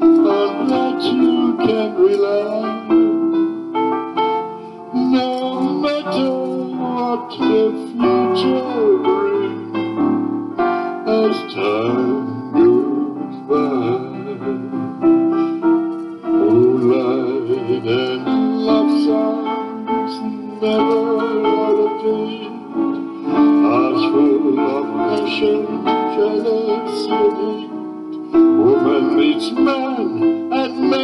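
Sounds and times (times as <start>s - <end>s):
piano keyboard music: 0.0s - 31.0s.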